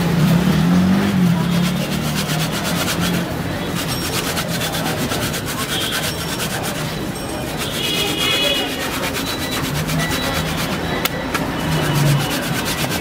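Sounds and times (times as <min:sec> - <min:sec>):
food rasping on box grater: 0:01.4 - 0:11.0, 0:11.6 - 0:13.0.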